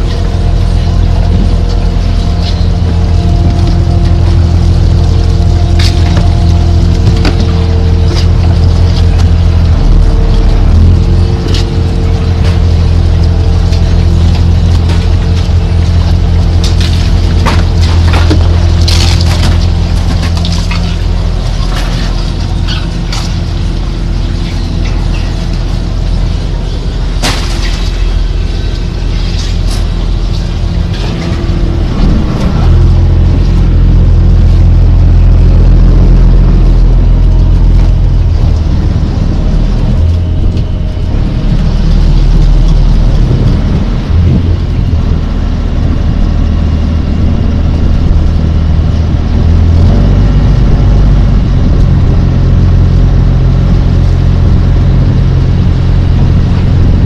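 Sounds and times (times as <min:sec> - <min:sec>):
boat engine low drone: 0:00.0 - 0:57.0.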